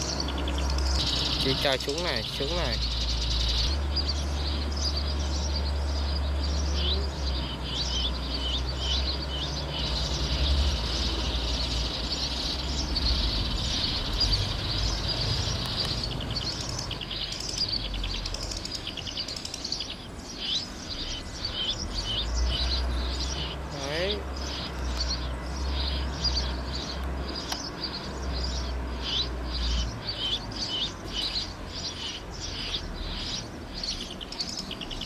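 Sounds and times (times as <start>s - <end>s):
low background rumble: 0.0s - 30.1s
sparrows chirping from loudspeaker: 0.0s - 35.0s.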